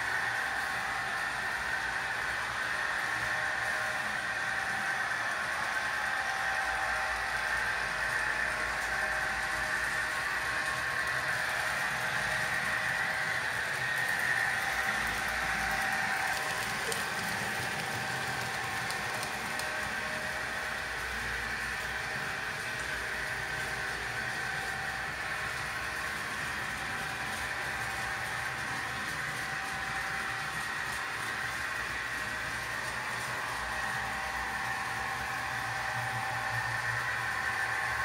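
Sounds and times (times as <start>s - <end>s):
model train motors whirring: 0.0s - 38.0s.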